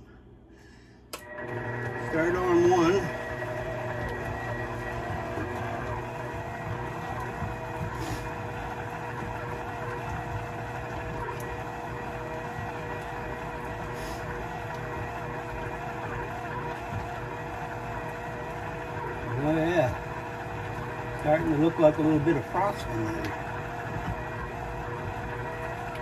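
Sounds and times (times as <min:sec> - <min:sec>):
electric mixer motor hum: 0:01.2 - 0:26.0.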